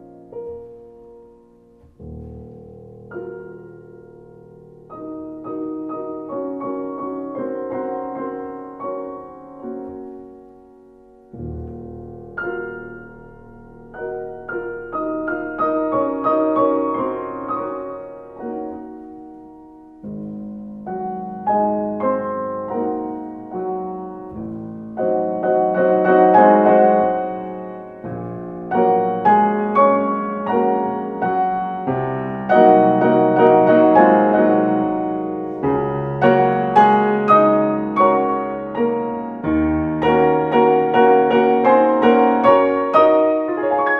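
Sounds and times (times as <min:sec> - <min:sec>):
slow solo piano piece: 0:00.0 - 0:43.9.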